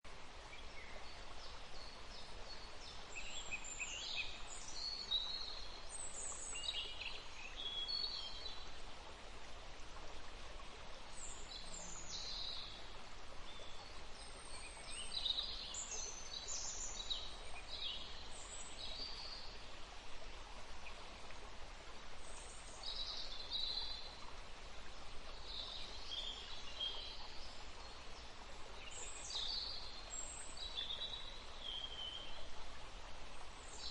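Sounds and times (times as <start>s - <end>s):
soft background hiss: 0.1s - 33.9s.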